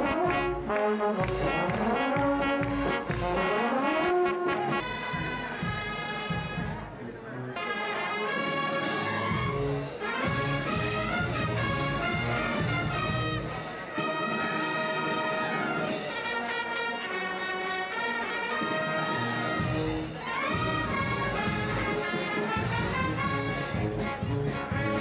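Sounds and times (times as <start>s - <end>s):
wind band playing: 0.0s - 25.0s.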